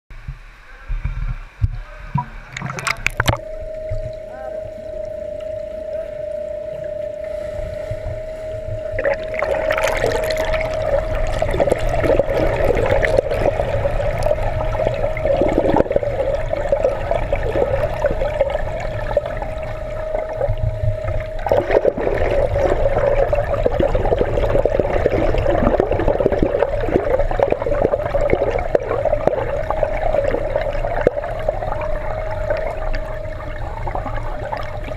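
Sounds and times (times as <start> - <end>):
steady hum: 0.1 - 34.9
muffled underwater splashing: 0.2 - 34.9.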